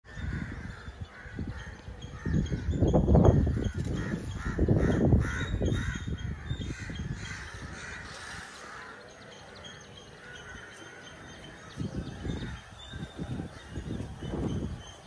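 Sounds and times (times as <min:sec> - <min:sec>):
crows cawing: 0:00.1 - 0:13.9.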